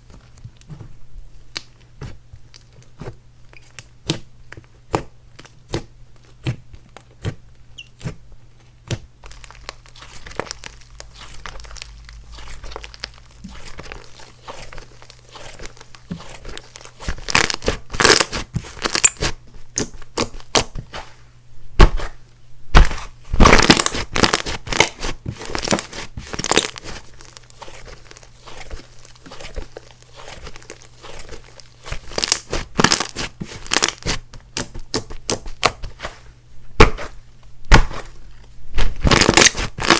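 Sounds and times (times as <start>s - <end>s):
hands squishing slime: 0.1s - 21.2s, 21.8s - 39.9s.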